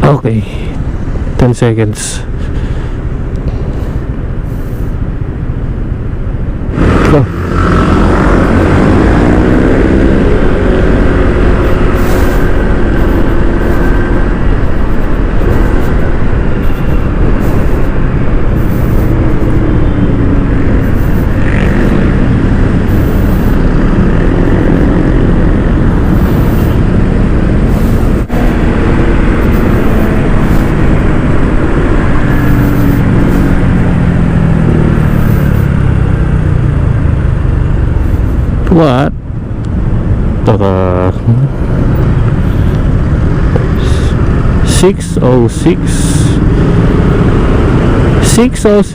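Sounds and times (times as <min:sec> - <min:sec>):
wind and road noise: 0:00.0 - 0:48.9.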